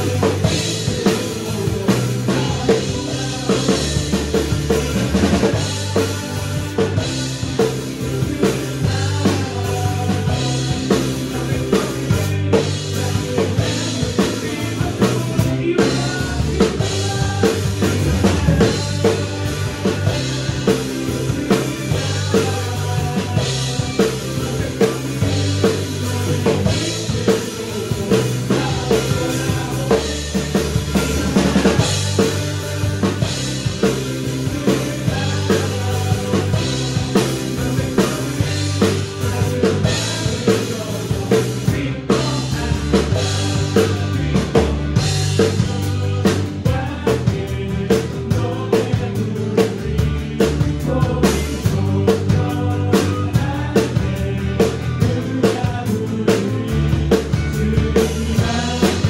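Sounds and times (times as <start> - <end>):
acoustic drum kit groove: 0.0 - 59.0
worship song backing track: 0.0 - 59.0.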